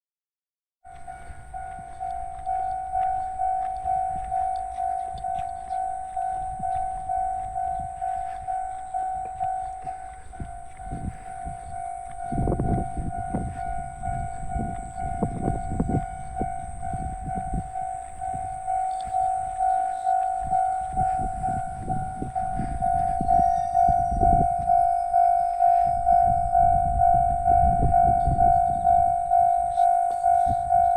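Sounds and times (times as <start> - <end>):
level crossing alarm clanging: 0.8 - 30.9
train rumbling and clattering: 0.9 - 30.9.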